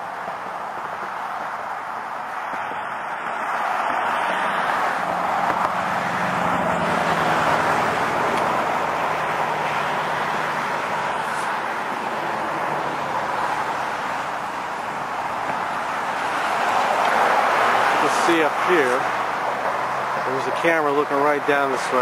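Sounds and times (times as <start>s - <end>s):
passing vehicle low hum: 0.0s - 20.5s
road traffic rushing: 0.0s - 22.0s.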